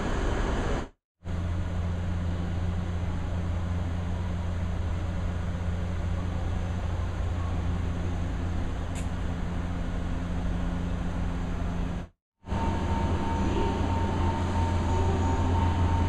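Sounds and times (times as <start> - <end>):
train equipment humming: 0.0 - 16.0.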